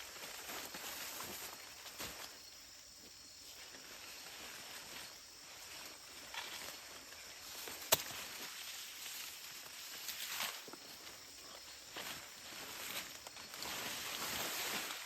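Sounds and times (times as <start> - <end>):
insect hiss: 0.0 - 15.0.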